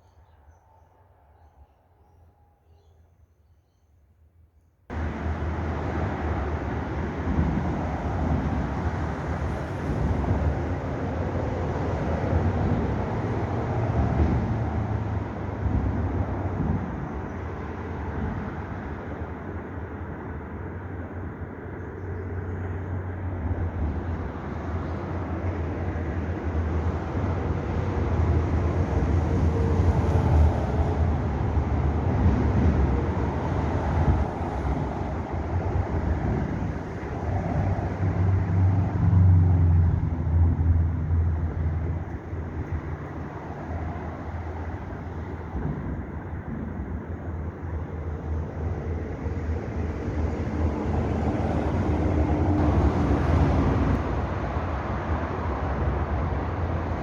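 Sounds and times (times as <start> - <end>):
passing vehicle rumble: 4.9 - 57.0.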